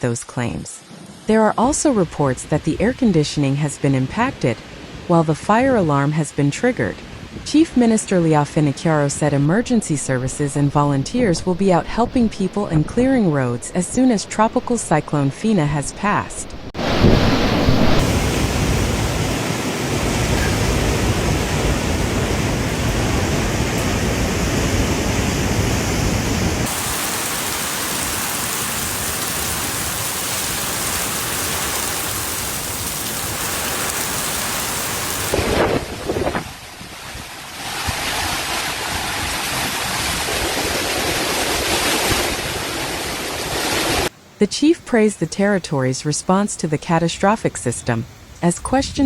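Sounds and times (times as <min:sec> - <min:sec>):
wind and heavy rain: 0:00.8 - 0:03.5, 0:04.1 - 0:15.2, 0:16.1 - 0:44.4.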